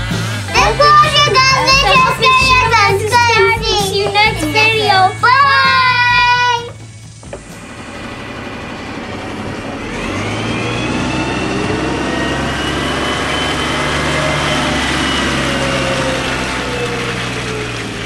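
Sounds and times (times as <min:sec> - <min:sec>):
rising whine: 0:00.0 - 0:18.0
vehicle engine running: 0:00.0 - 0:18.0.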